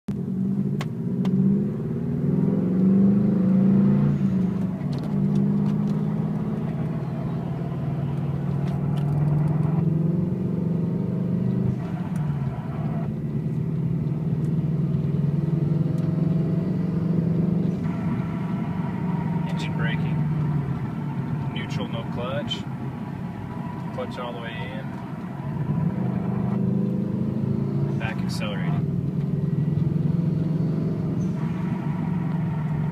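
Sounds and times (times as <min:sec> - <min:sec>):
car engine with grinding noise: 0:00.1 - 0:32.9.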